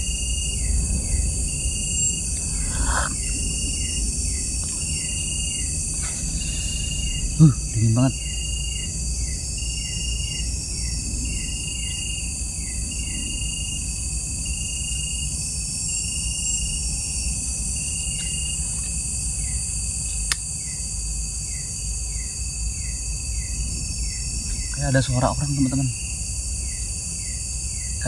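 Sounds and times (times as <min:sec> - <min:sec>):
crickets shrilling: 0:00.0 - 0:28.0
falling insect chirps: 0:00.0 - 0:28.0
insect chirp: 0:00.0 - 0:28.0.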